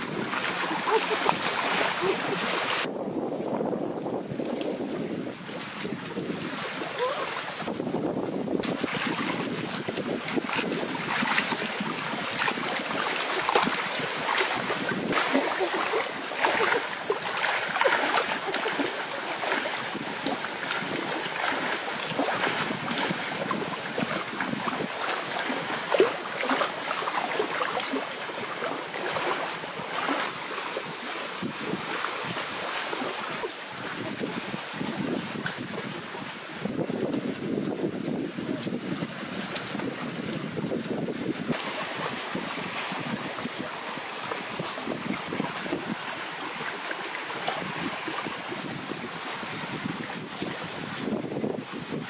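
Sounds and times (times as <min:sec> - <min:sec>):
water splashing from wading: 0:00.0 - 0:02.9, 0:04.4 - 0:52.0
small waves washing: 0:00.0 - 0:03.0, 0:04.2 - 0:52.0
wind on microphone: 0:00.0 - 0:52.0.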